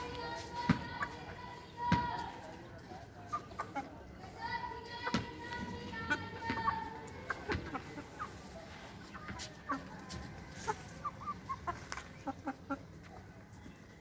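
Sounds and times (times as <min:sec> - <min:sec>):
chickens clucking: 0:02.2 - 0:14.0.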